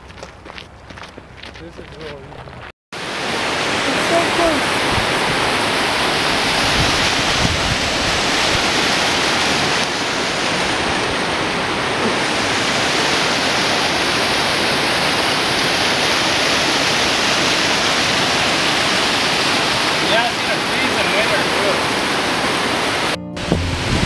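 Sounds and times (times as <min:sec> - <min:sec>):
waterfall rushing: 0:03.0 - 0:24.0.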